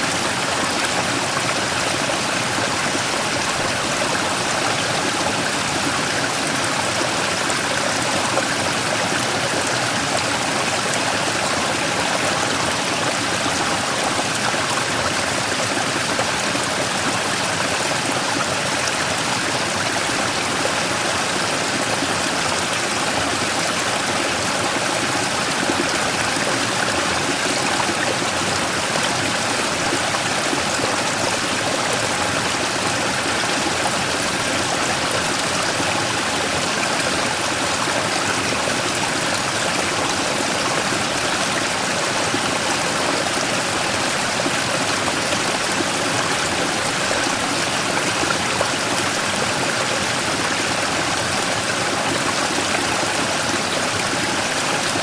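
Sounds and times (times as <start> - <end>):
stream water rushing over rock: 0.0 - 55.0.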